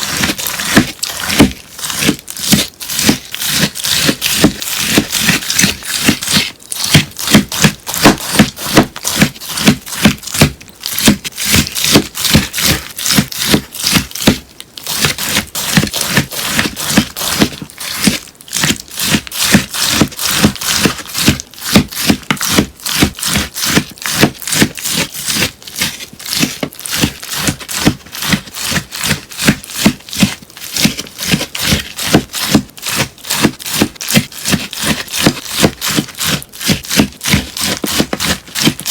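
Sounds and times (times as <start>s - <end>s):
slime crackling crunches: 0.0s - 38.9s.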